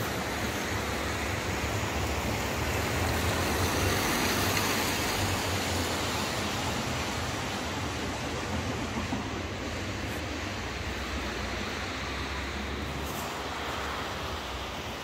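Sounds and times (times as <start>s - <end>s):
steady rushing street noise: 0.0s - 15.0s.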